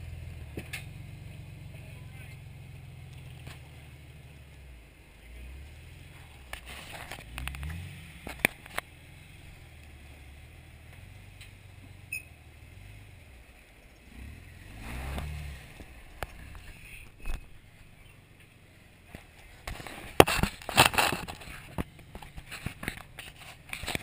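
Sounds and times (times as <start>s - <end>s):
engine running and revving: 0.0s - 24.0s.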